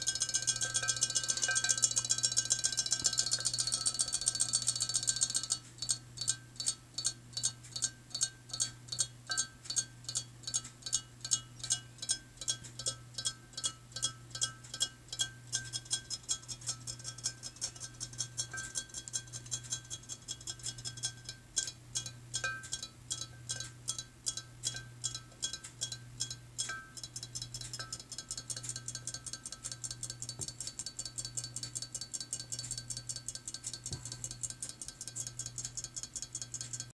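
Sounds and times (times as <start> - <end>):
low steady hum: 0.0 - 36.9
toy mechanism ticking in glass bowl: 0.0 - 36.9.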